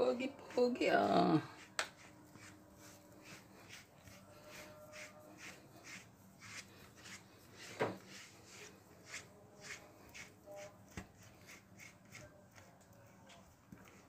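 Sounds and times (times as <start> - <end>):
brush swishing through fur: 0.5 - 14.0.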